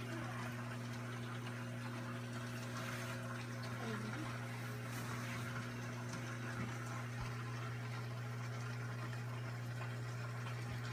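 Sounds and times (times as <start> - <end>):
aquarium pumps humming: 0.0 - 10.9
bubbling water: 0.0 - 10.9.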